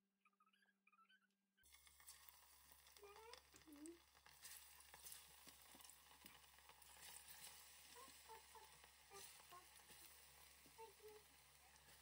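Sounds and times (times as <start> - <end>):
food deep-frying in oil: 1.6 - 12.0.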